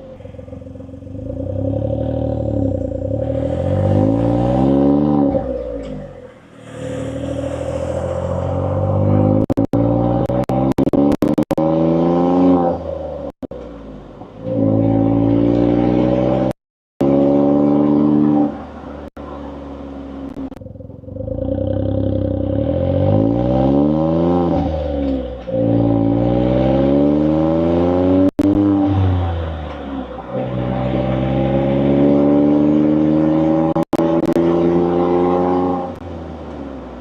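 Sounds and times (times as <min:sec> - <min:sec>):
car exhaust accelerating: 0:00.0 - 0:37.0.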